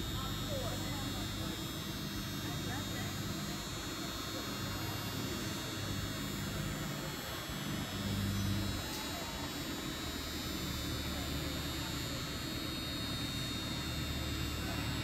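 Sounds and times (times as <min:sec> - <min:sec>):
distant indistinct voices: 0:00.0 - 0:15.0.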